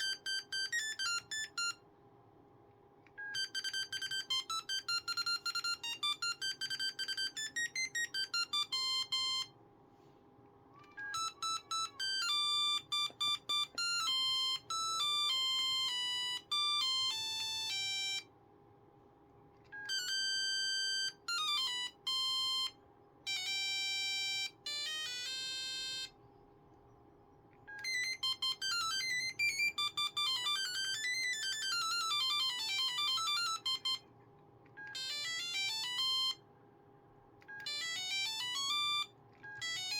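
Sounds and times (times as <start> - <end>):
monophonic phone ringtones: 0.0 - 1.8, 3.2 - 9.5, 10.8 - 18.3, 19.8 - 26.2, 27.7 - 34.1, 34.8 - 36.4, 37.5 - 39.9.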